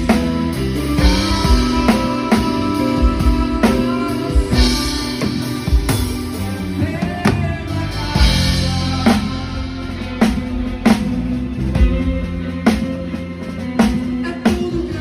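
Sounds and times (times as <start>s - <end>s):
christian band music: 0.0s - 15.0s
drum kit steady beat: 0.0s - 15.0s.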